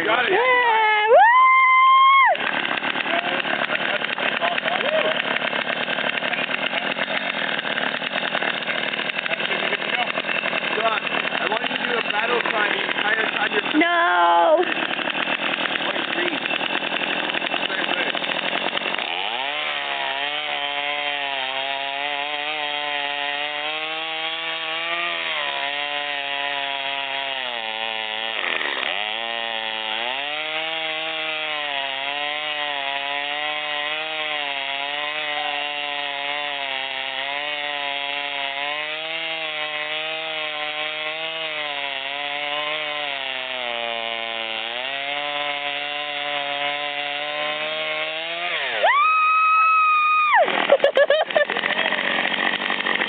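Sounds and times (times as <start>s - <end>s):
chainsaw running at high revs: 0.0s - 53.0s.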